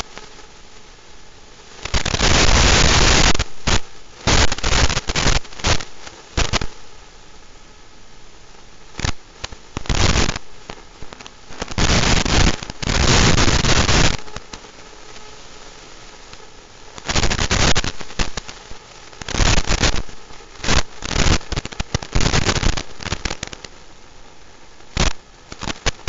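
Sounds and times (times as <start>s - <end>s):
static hiss bursts: 0.0s - 26.0s.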